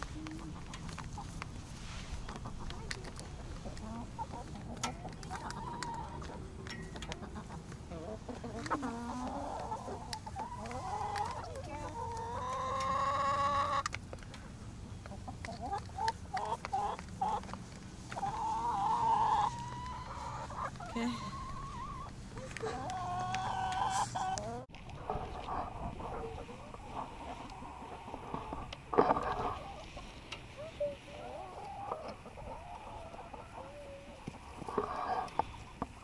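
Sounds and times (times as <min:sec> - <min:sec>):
hens clucking: 0:00.0 - 0:36.0.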